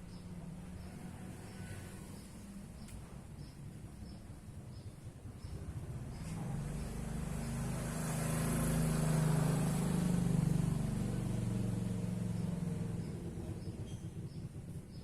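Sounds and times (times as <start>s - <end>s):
vehicle engine hum passing: 0.0s - 15.0s.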